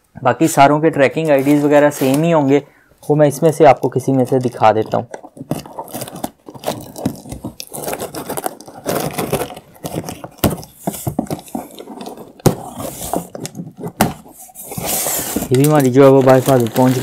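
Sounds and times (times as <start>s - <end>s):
cardboard scraping and tearing: 1.2s - 2.6s, 3.2s - 17.0s.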